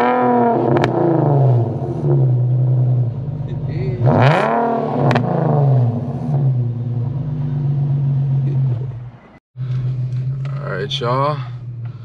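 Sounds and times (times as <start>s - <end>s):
car engine revving to idle: 0.0s - 12.0s.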